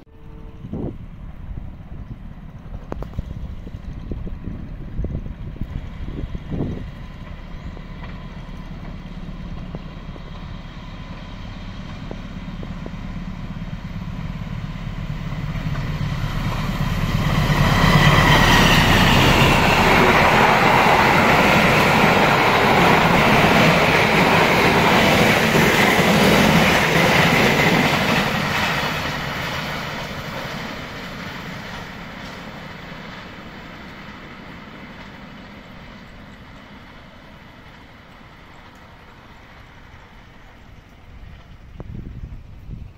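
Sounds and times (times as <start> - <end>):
diesel locomotive engine rumble: 0.0 - 42.9.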